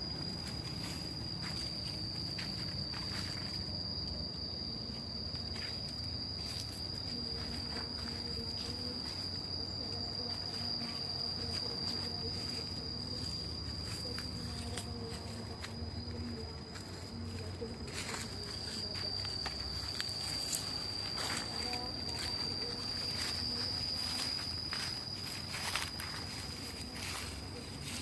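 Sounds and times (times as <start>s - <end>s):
insect high-pitched tone: 0.0s - 28.0s.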